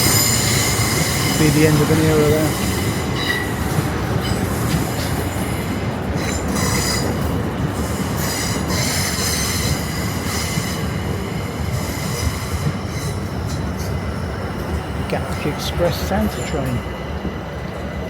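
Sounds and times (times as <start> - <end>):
train rumbling over rails: 0.0 - 18.0.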